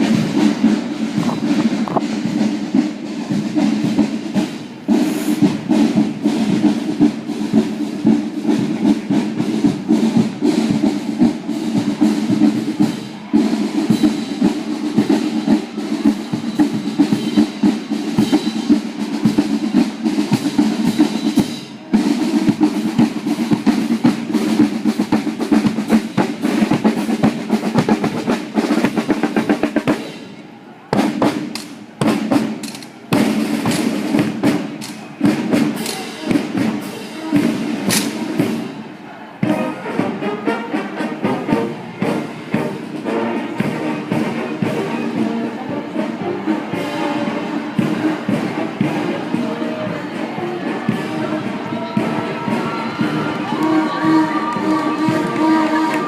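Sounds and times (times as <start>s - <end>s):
snare drum rolls: 0.0s - 56.0s.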